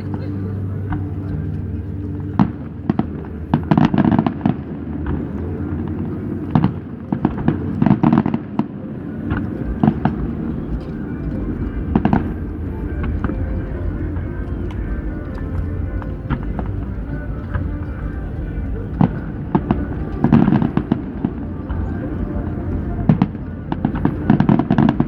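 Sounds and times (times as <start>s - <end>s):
steady low hum: 0.0s - 25.0s
fireworks bursting: 2.2s - 25.0s.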